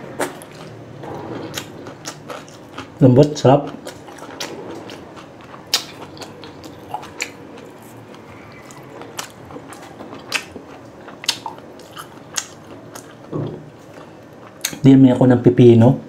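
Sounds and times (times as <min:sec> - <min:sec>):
chewing: 0:00.1 - 0:14.8.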